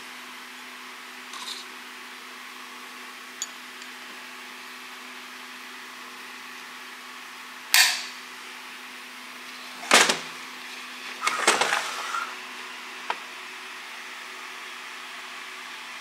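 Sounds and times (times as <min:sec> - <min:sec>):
low workshop hum: 0:00.0 - 0:16.0.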